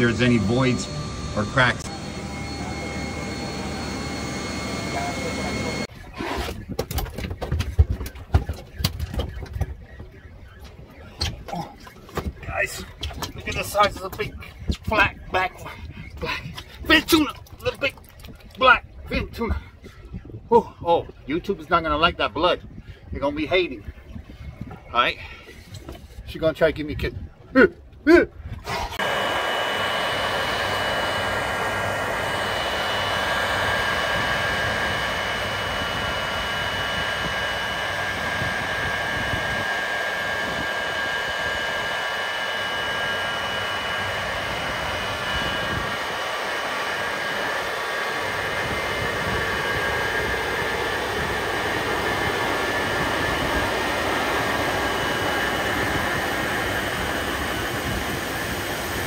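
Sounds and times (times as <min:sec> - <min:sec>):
jet engine running with high whine: 0:00.0 - 0:27.4, 0:28.6 - 0:59.0.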